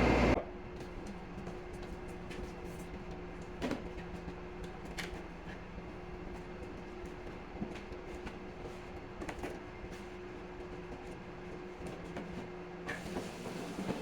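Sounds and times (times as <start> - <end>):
faint machine hum: 0.0 - 13.0.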